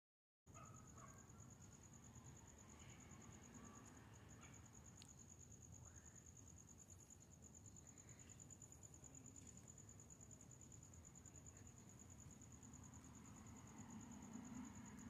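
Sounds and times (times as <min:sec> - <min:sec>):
crickets trilling: 0:00.5 - 0:15.0.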